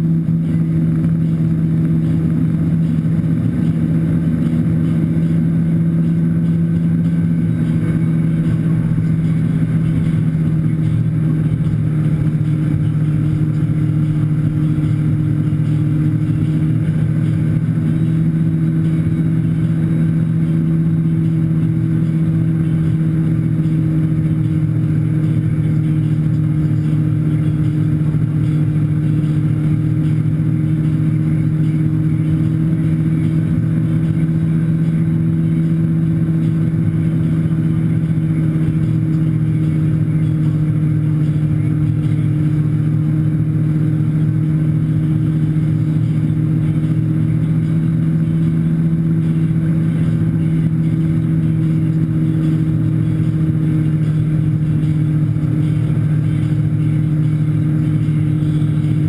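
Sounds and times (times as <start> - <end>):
boat wake churning: 0.0 - 59.0
motorboat engine droning: 0.0 - 59.0.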